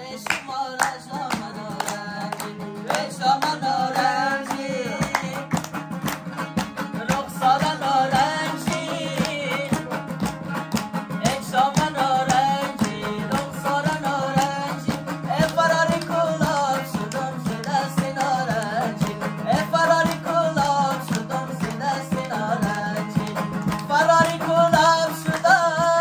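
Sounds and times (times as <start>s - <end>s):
man singing folk song: 0.0s - 26.0s
people clapping along: 0.0s - 26.0s
strummed lute: 0.0s - 26.0s.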